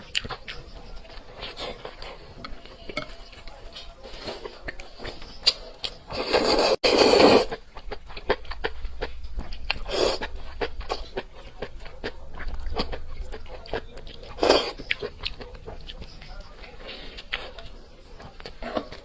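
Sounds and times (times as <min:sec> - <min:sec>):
wet chewing: 0:00.0 - 0:19.0.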